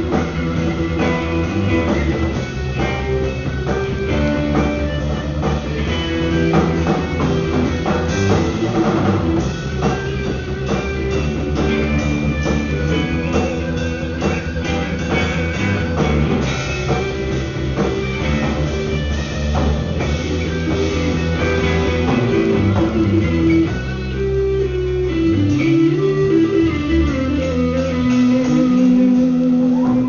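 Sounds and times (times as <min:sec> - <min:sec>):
drum kit steady beat: 0:00.0 - 0:29.8
electric guitar: 0:00.0 - 0:30.0.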